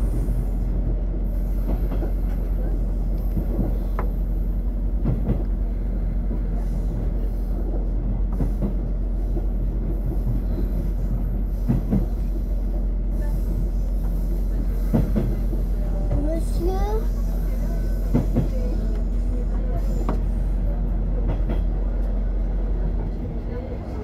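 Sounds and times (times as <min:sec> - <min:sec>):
railcar engine drone: 0:00.0 - 0:24.0.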